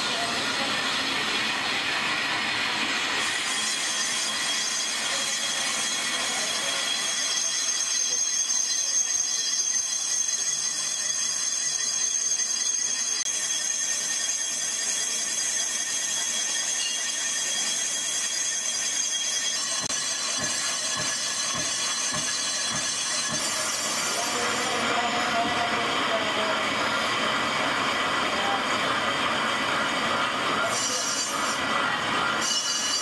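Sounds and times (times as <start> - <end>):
lathe cutting tool squealing: 0.0 - 33.0
lathe running noise: 0.0 - 33.0.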